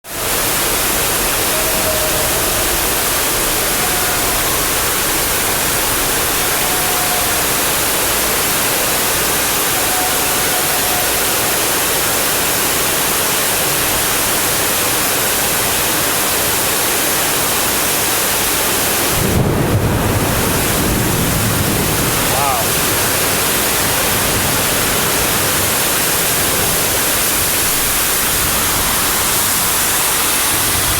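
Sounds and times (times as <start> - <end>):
heavy rain and rushing water: 0.0 - 30.9.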